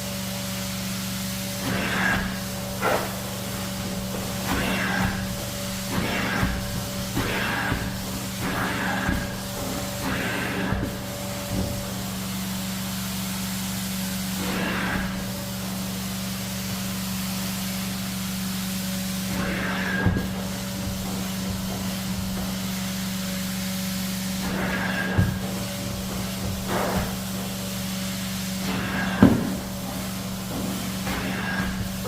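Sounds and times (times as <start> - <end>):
carpet cleaning machine humming: 0.0 - 32.0.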